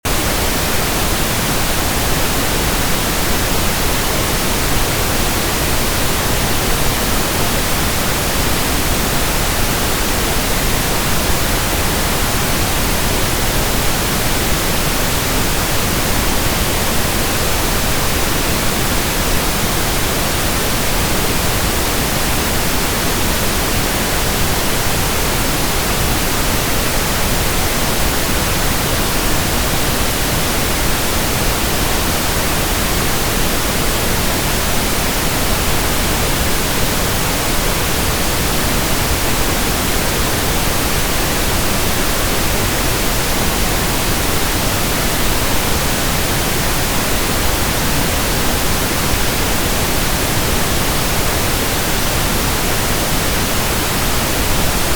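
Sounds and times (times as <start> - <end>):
pink noise hiss: 0.1 - 54.9.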